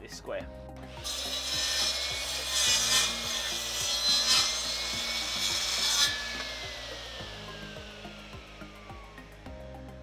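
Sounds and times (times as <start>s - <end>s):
mitre saw cutting through log: 0.9s - 9.4s.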